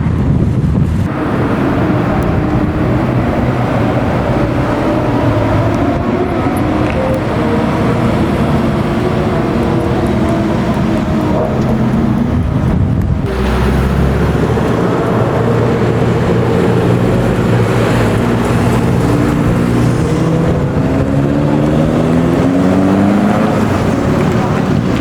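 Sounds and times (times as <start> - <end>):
car engine accelerating: 0.1 - 25.0.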